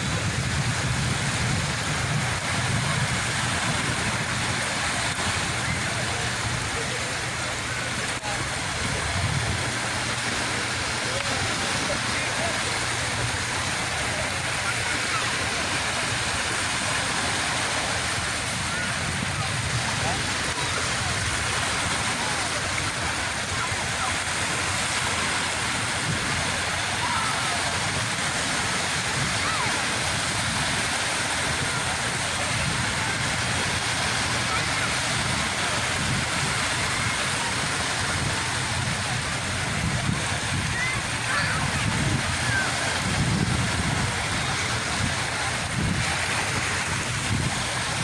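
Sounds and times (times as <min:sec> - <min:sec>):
waves breaking on shore: 0:00.0 - 0:48.0.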